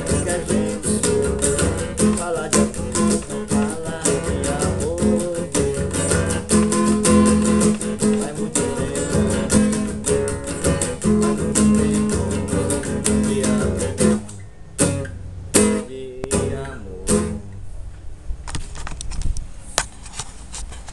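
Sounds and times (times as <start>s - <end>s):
acoustic guitar strumming: 0.0s - 17.6s.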